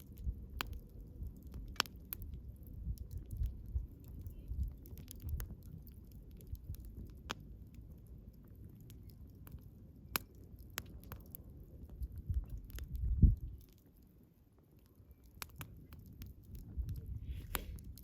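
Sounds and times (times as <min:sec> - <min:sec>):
campfire crackling and popping: 0:00.0 - 0:18.0
low flutter of flames: 0:00.0 - 0:18.0.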